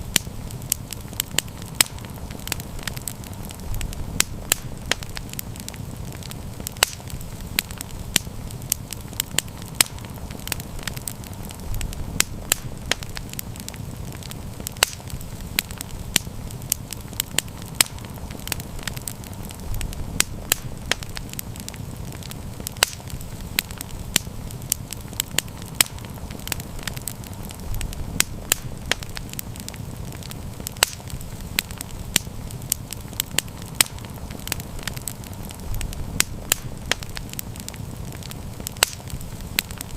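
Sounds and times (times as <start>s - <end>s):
campfire pops and snaps: 0.0s - 39.9s
low rumble of flames: 0.0s - 39.9s.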